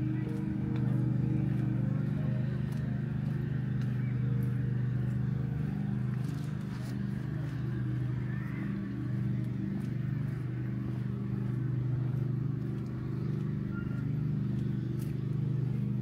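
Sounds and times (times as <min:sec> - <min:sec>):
footstep clicks: 0:00.0 - 0:16.0
low mechanical hum: 0:00.0 - 0:16.0.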